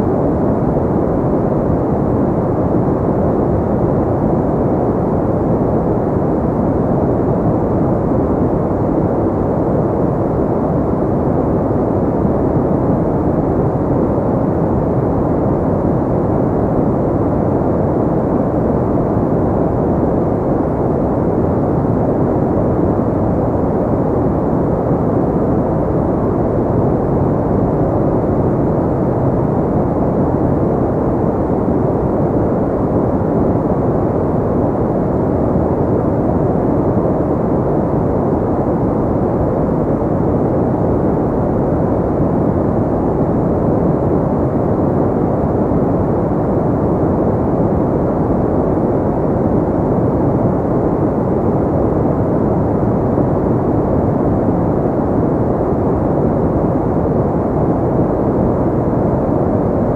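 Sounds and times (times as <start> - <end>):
deep muffled white noise: 0.0 - 59.9.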